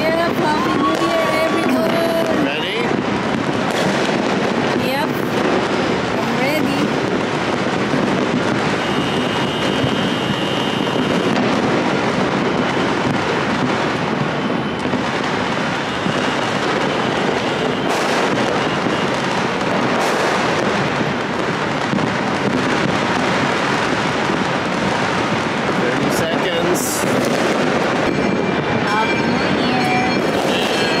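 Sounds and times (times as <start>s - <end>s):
distant fireworks din: 0.0s - 31.0s
sharp firework bangs: 0.0s - 31.0s.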